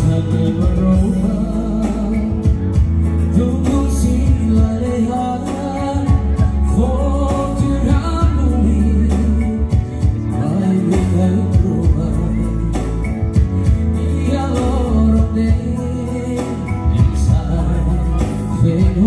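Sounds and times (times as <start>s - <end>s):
electronic keyboard music: 0.0s - 19.0s
man singing into a microphone: 0.0s - 19.0s.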